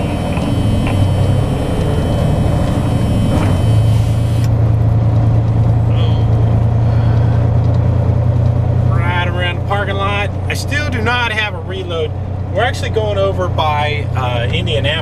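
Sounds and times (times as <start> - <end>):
diesel truck engine drone: 0.0 - 15.0.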